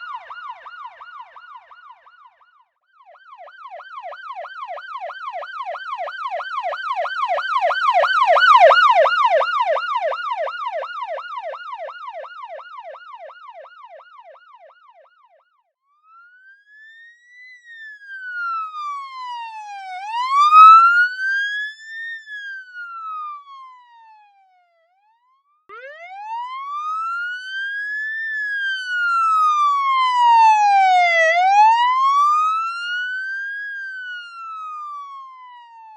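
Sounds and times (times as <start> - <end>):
police siren wail: 0.0 - 35.9
police siren yelp: 0.0 - 35.9.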